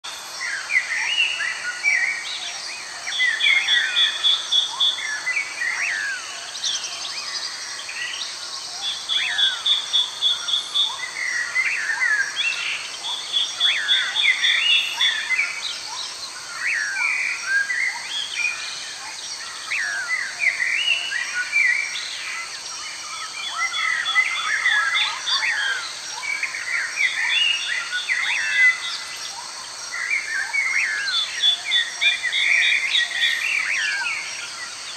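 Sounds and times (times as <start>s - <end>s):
insect hiss: 0.1s - 34.9s.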